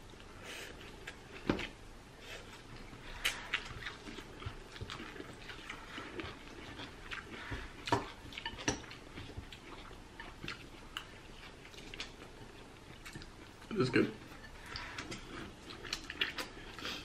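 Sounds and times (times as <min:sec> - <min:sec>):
noodles slurped and chewed: 0:00.1 - 0:17.0.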